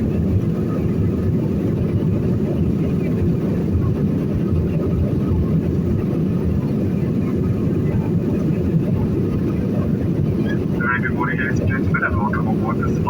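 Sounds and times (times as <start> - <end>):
airliner engines rumbling in cabin: 0.0 - 13.0.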